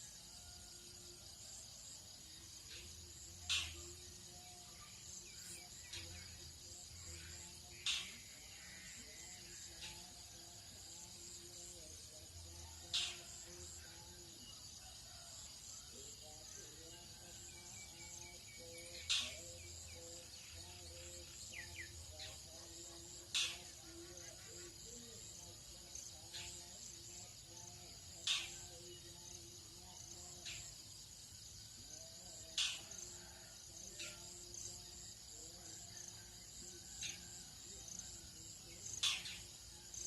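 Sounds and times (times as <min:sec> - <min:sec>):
crickets and insects humming: 0:00.0 - 0:40.0.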